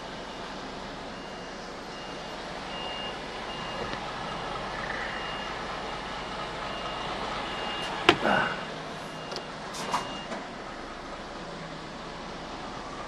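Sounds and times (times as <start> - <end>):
truck reversing beeper: 0.0 - 11.4
truck engine running: 0.0 - 13.0.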